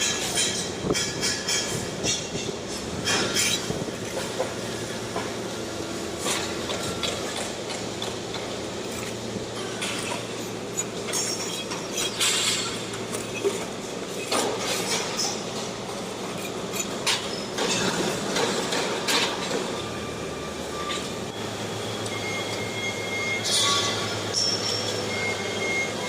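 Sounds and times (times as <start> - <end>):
steady machine hum: 0.0 - 23.4.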